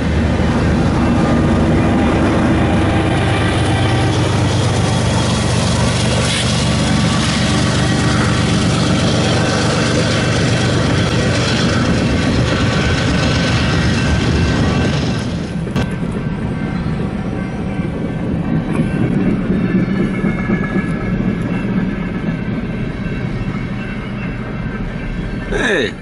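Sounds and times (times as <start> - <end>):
freight train passing: 0.0 - 26.0.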